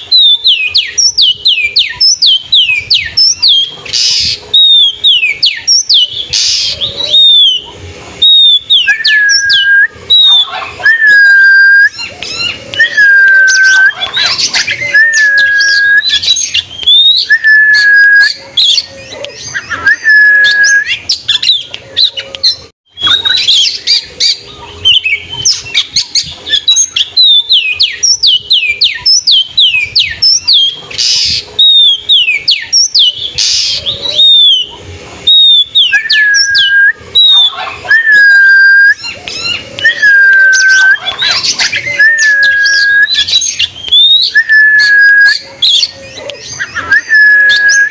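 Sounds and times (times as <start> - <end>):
bird singing whistles and chatter: 0.0 - 47.9.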